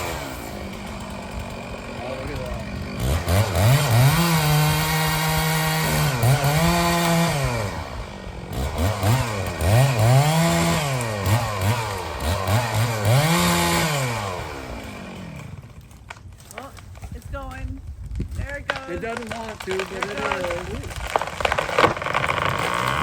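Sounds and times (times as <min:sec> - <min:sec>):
chainsaw revving: 0:00.0 - 0:17.3, 0:18.7 - 0:23.0.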